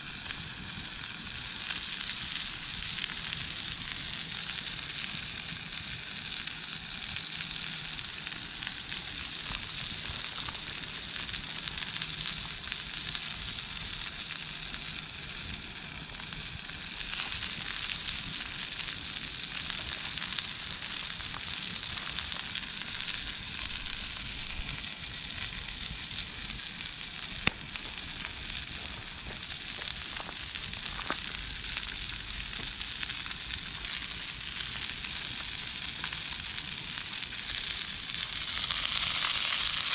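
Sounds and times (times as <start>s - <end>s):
meat sizzling: 0.0s - 39.9s.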